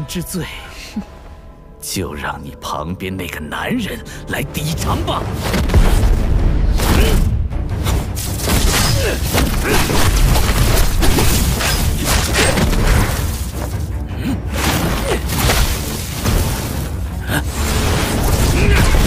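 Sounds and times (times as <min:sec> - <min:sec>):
music: 0:00.0 - 0:19.0.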